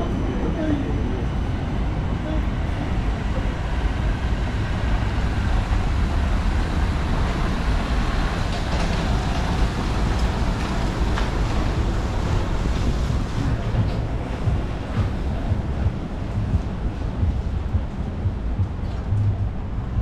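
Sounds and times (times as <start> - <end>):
truck engine rumbling: 0.0 - 20.0
cars passing on wet road: 1.7 - 20.0.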